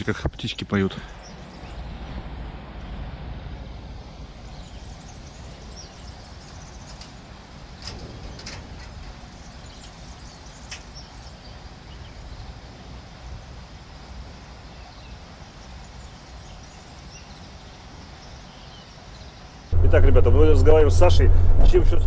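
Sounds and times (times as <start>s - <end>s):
faint birdsong chirps: 0.0s - 22.0s
low outdoor rumble: 0.0s - 22.0s.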